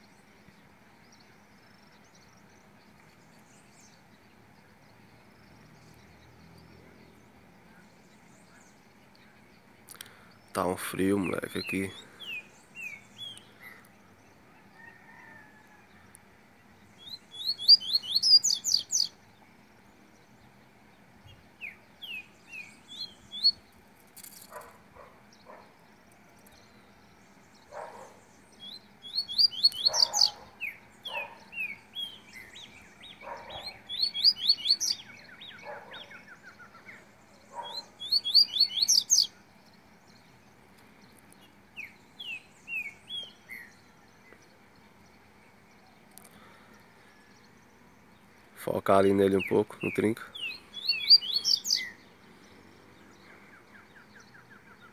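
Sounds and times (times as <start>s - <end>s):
soft bird chirps: 0.0s - 54.9s
songbirds singing rising notes: 0.0s - 54.9s.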